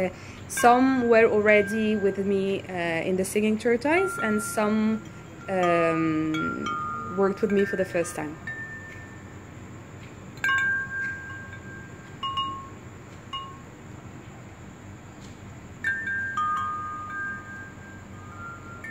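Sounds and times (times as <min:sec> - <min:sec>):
faint steady hiss: 0:00.0 - 0:18.9.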